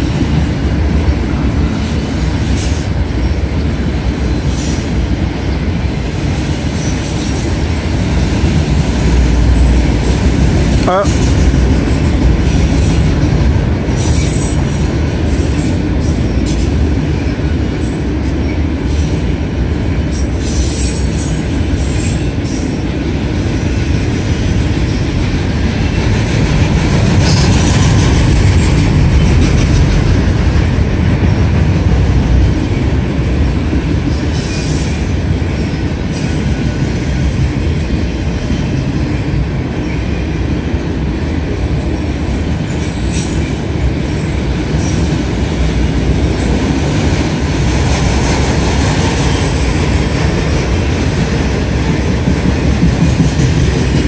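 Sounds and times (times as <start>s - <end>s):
train clanks and screeches: 0.0s - 54.0s
train wheels rumbling on rail: 0.0s - 54.0s.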